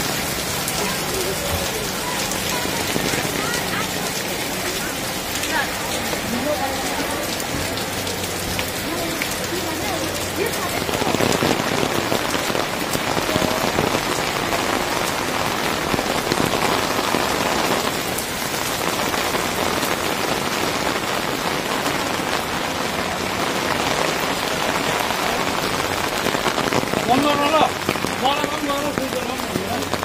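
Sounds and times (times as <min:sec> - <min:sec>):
steady rain on pavement: 0:00.0 - 0:30.0.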